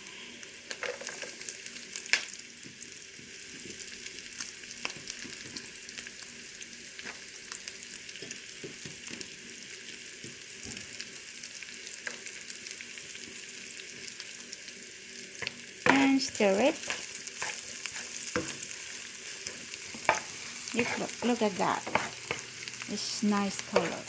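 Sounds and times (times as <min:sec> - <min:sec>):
meat sizzling in a frying pan: 0:00.0 - 0:24.0.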